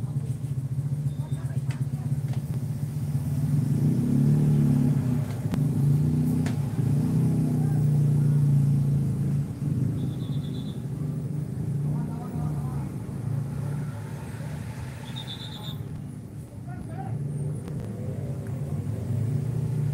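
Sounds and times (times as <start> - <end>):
bus engine rumbling: 0.0 - 19.9.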